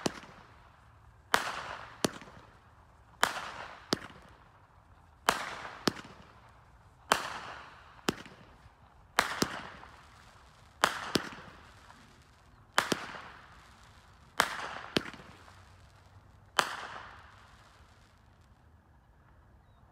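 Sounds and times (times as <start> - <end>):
fireworks reports: 0.0 - 18.6.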